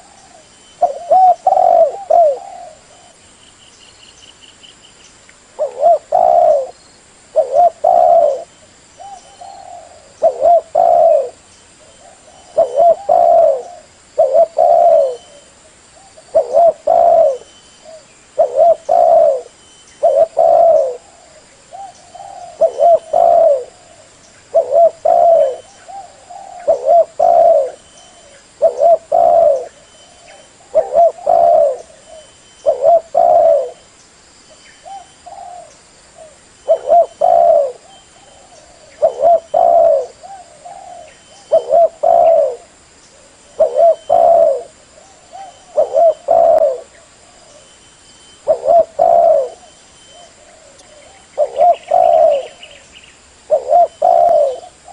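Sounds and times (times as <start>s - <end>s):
dove cooing: 0.0s - 3.2s, 5.6s - 33.8s, 34.8s - 47.8s, 48.4s - 52.8s, 53.4s - 54.9s.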